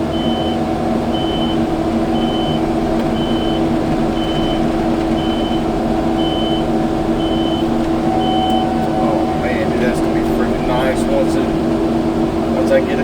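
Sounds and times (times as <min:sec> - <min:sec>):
reversing alarm beeping: 0:00.0 - 0:11.6
skid steer engine running: 0:00.0 - 0:13.0.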